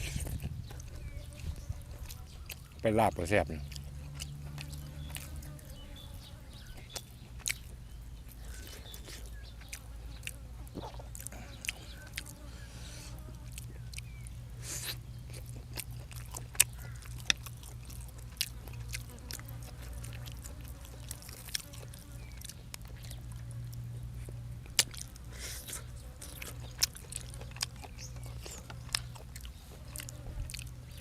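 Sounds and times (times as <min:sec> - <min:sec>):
chewing and biting food: 0:00.0 - 0:31.0
steady low hum: 0:00.0 - 0:31.0.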